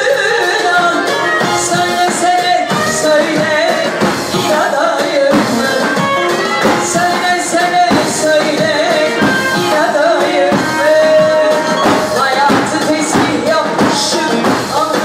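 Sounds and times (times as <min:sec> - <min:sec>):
singer with live band: 0:00.0 - 0:15.0.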